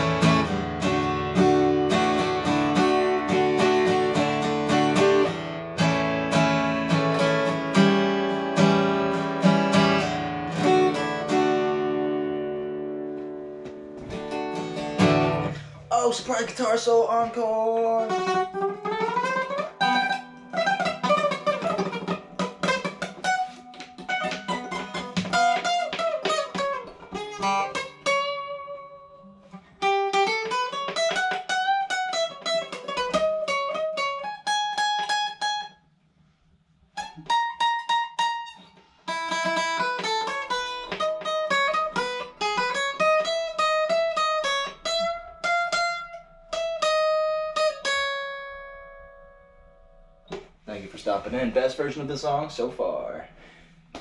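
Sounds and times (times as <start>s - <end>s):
solo guitar melody: 0.0s - 54.0s.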